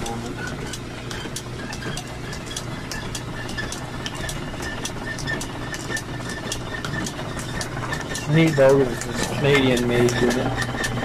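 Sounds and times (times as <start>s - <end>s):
grinder humming: 0.0s - 11.0s.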